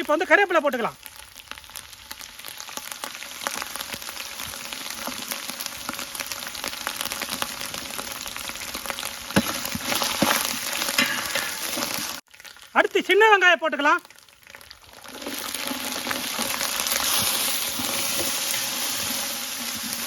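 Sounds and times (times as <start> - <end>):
leaves crackling in hot oil: 0.0 - 20.0.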